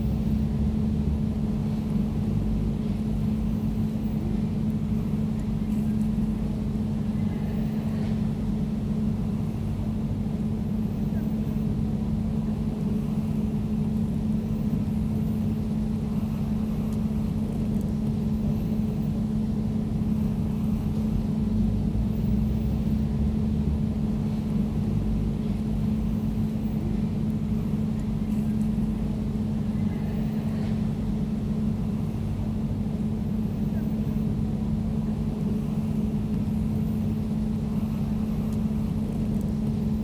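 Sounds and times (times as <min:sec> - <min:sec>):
air conditioner humming: 0:00.0 - 0:40.0.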